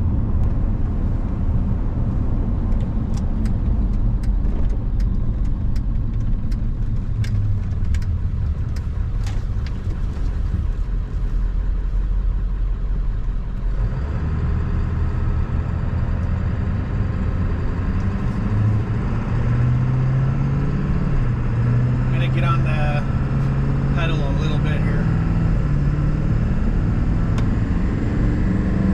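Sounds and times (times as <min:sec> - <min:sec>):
diesel truck engine running: 0:00.0 - 0:28.9.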